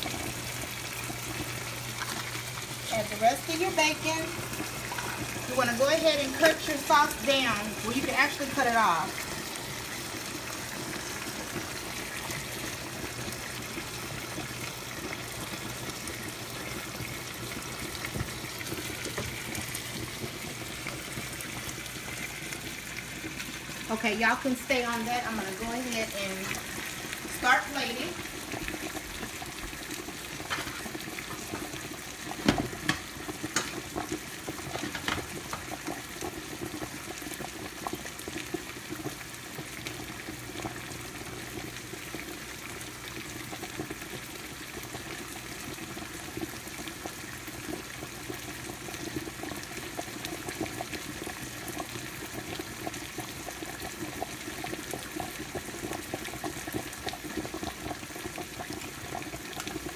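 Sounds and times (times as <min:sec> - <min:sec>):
sauce bubbling in a pan: 0:00.0 - 0:59.9.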